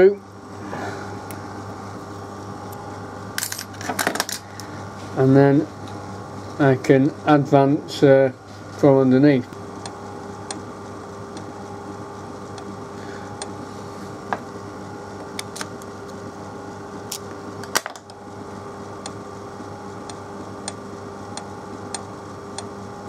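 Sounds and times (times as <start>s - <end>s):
low workshop hum: 0.0s - 23.0s.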